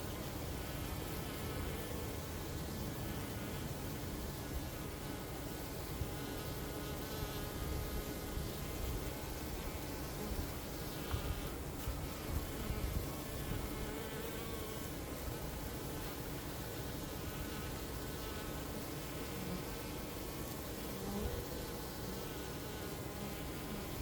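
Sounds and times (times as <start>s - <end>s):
bee passing close: 0.0s - 24.0s
honeybees buzzing: 0.0s - 24.0s.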